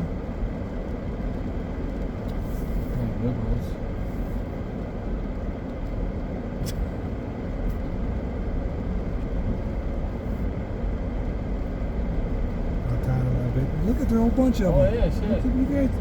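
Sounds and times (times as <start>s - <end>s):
car driving low rumble: 0.0s - 16.0s.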